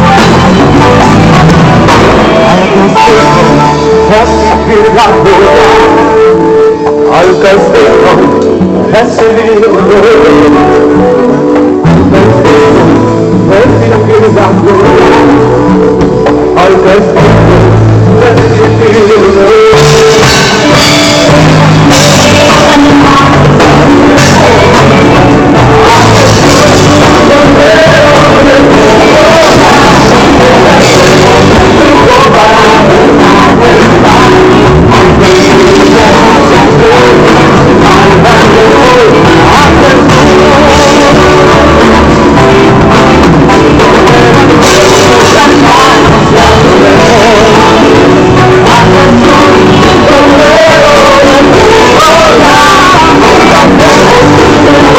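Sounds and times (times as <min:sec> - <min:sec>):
live band playing: 0:00.0 - 0:54.9
person singing: 0:00.0 - 0:54.9.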